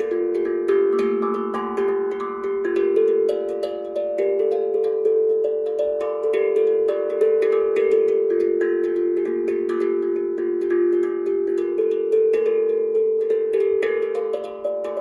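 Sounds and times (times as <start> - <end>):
steel tongue drum notes: 0.0 - 15.0.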